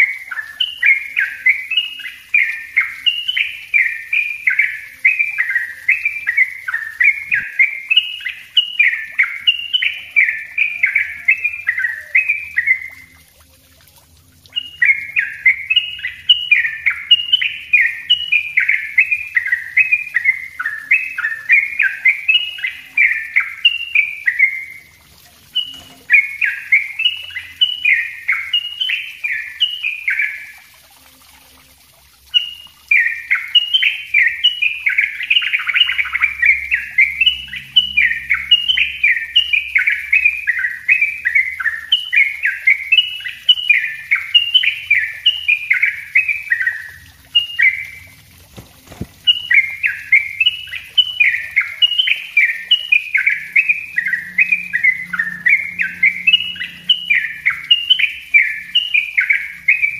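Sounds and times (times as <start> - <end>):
bird singing rapid chirps: 0.0 - 13.3, 14.5 - 30.7, 32.3 - 59.9.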